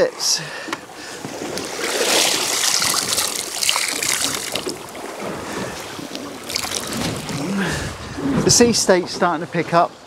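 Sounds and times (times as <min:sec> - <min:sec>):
water splashing against boat: 0:00.0 - 0:10.0.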